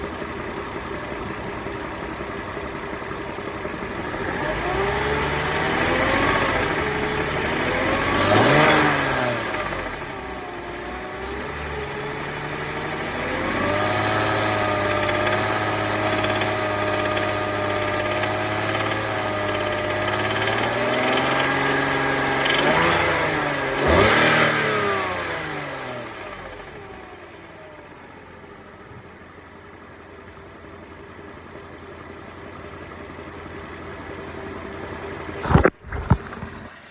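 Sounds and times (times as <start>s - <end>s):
car engine revving and idling: 0.0s - 36.9s.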